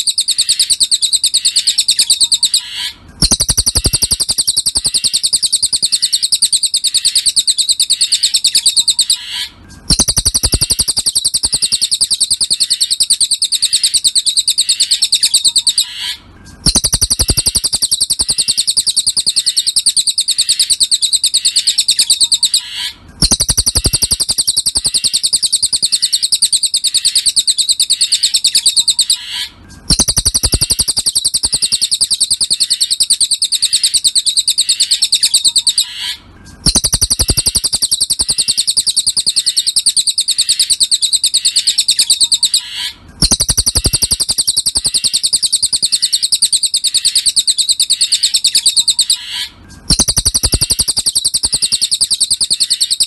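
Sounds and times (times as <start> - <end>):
bird high-pitched trill: 0.0 - 53.0.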